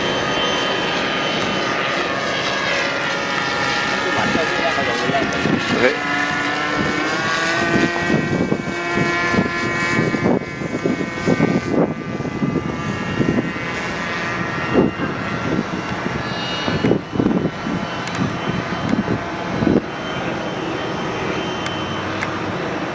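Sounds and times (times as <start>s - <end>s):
low rumbles: 0.0s - 21.2s
model airplane engine running: 0.0s - 22.9s.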